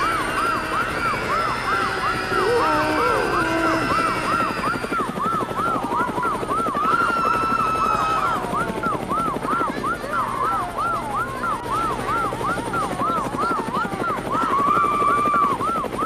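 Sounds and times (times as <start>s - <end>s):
helicopter rotor chop: 0.0s - 16.0s
panicking crowd crying: 0.0s - 16.0s
police siren yelping: 0.0s - 16.0s.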